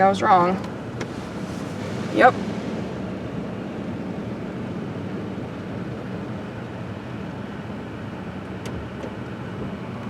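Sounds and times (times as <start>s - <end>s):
idling car hum: 0.0s - 10.0s.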